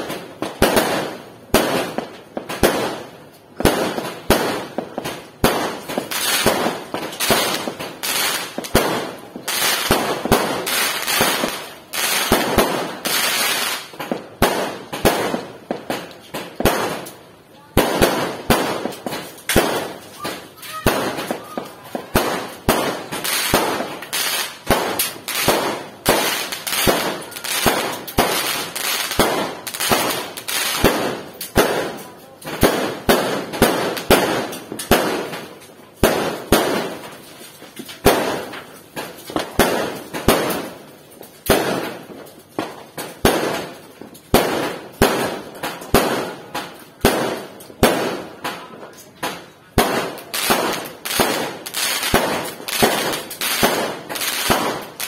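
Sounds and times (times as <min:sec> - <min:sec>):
fireworks banging and crackling: 0:00.0 - 0:55.0.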